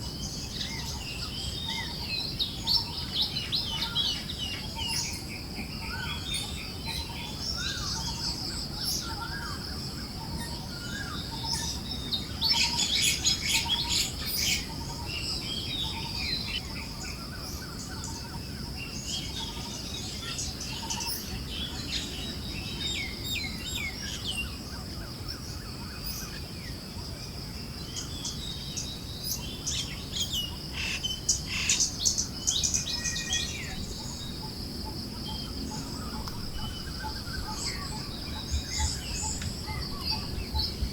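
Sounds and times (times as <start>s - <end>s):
forest birds chirping: 0.0s - 40.9s.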